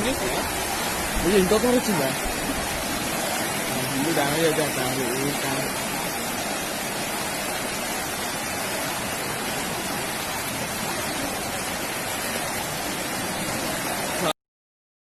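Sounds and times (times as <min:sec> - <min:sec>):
floodwater rushing: 0:00.0 - 0:14.4.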